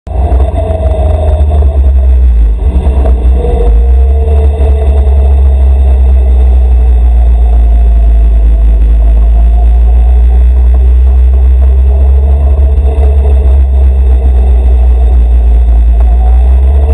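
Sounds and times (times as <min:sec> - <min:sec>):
tractor engine rumbling: 0:00.0 - 0:16.9.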